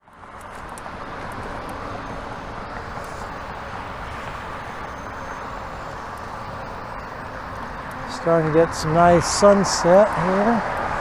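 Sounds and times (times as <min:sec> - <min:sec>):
bicycle tyre noise: 0:00.0 - 0:11.0.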